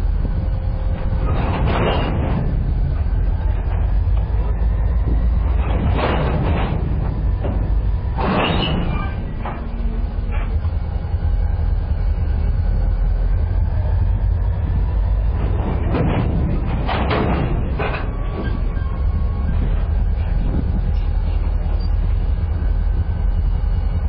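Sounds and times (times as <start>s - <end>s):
freight train low rumble: 0.0s - 24.0s
harsh metallic bursts: 0.6s - 22.3s.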